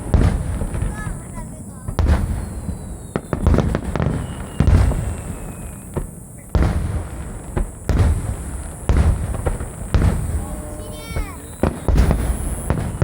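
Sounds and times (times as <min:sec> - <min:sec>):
firework shells booming: 0:00.0 - 0:13.0.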